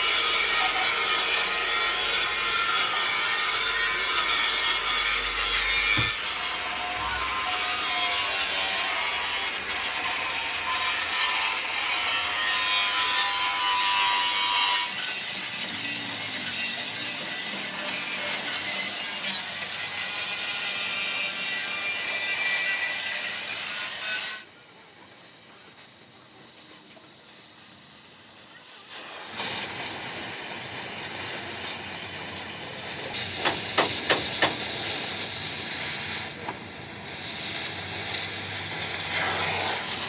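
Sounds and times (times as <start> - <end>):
power tool grinding steel: 0.0 - 24.6, 25.2 - 40.0.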